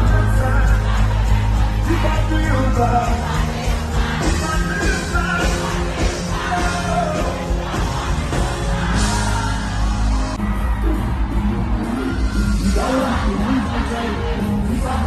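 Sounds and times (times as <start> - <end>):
heavy bass: 0.0 - 15.0
loud concert music through pa: 0.0 - 15.0
voices singing and shouting: 0.0 - 15.0.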